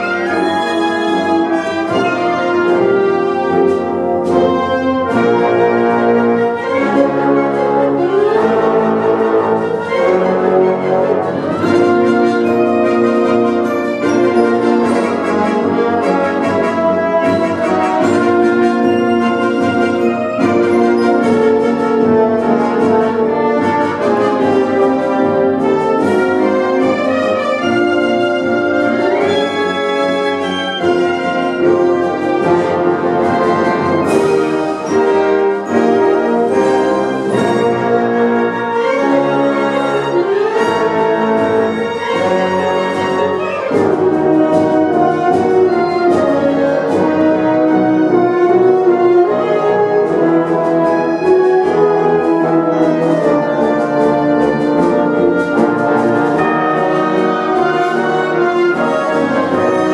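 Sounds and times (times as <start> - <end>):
wind ensemble playing: 0.0 - 59.9.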